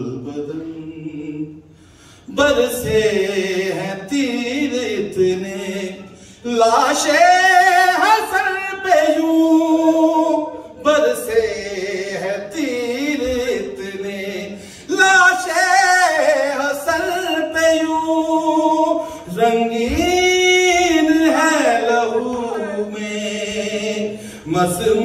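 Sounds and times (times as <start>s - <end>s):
man chanting: 2.3s - 25.0s.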